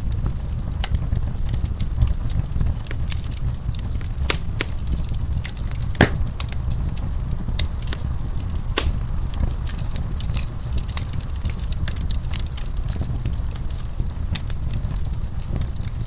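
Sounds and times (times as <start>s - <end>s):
wood fire crackling: 2.3s - 16.0s.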